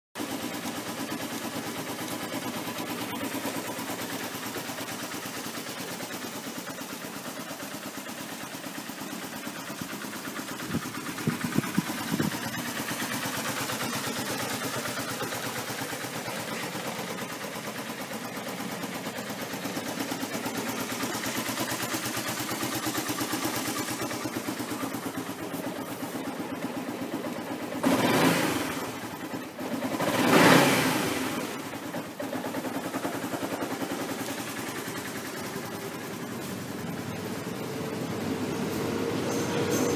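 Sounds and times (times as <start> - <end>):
scooter engine idling: 0.2 - 39.9.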